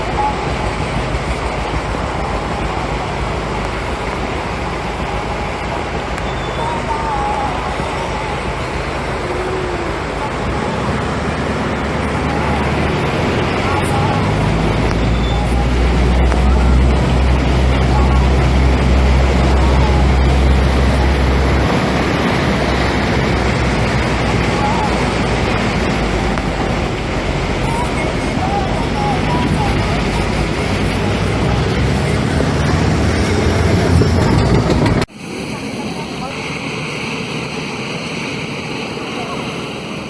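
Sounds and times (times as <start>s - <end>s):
deep rumble: 0.0s - 35.1s
floodwater rushing: 0.0s - 40.0s.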